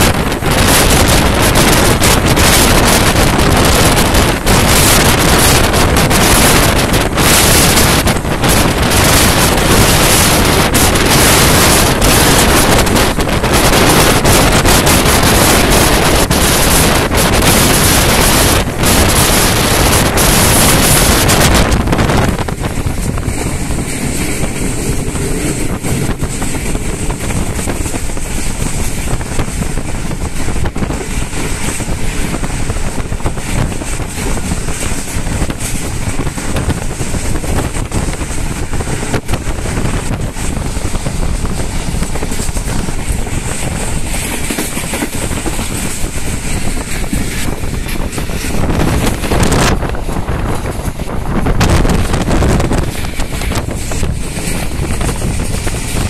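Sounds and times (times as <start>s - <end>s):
train rushing and rumbling: 0.0s - 56.0s
wind buffeting the microphone: 0.0s - 56.0s.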